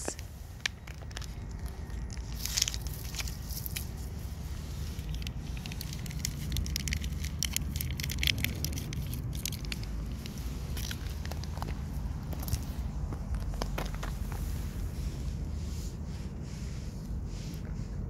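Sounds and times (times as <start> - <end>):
sharp crackles and scuffs: 0.0 - 18.0
steady low rumble: 0.0 - 18.0.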